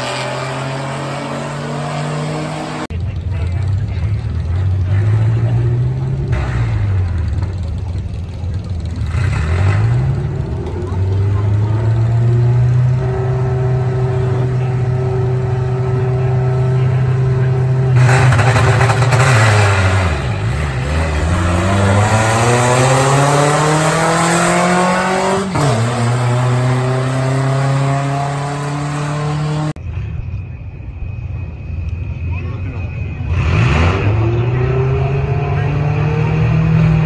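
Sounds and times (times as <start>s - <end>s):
racing engines revving: 0.0s - 30.5s, 31.1s - 37.0s.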